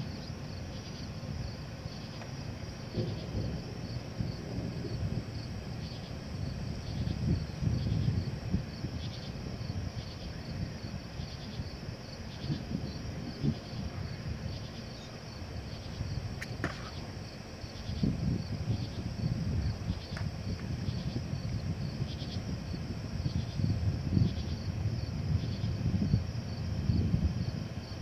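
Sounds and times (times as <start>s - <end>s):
night insects chirping: 0.0s - 28.0s.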